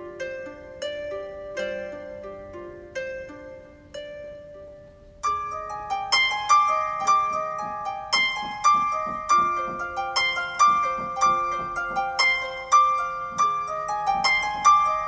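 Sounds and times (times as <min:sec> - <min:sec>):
plucked notes background music: 0:00.0 - 0:15.0.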